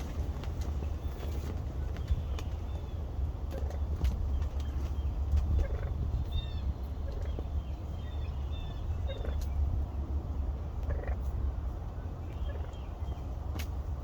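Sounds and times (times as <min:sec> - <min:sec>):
wild turkeys calling: 0:00.2 - 0:09.7, 0:10.3 - 0:13.4.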